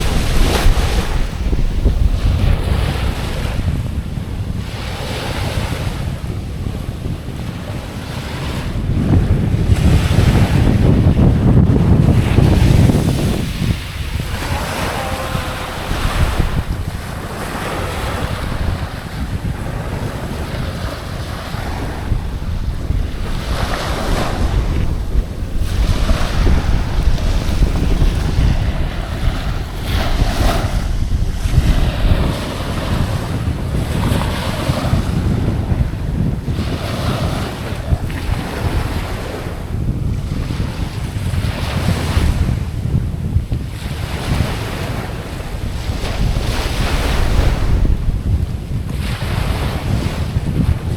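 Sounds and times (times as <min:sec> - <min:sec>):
ocean waves washing ashore: 0:00.0 - 0:50.9
wind buffeting microphone: 0:00.0 - 0:50.9.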